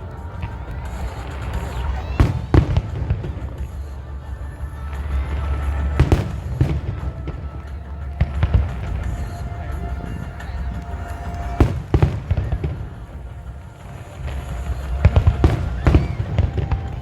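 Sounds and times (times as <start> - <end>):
distant fireworks rumble: 0.0 - 17.0
fireworks bangs: 0.0 - 17.0.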